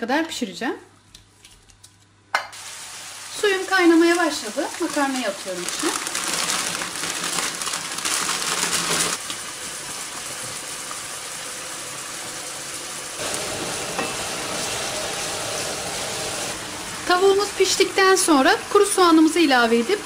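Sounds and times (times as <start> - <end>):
chicken sizzling in a frying pan: 2.5 - 20.0.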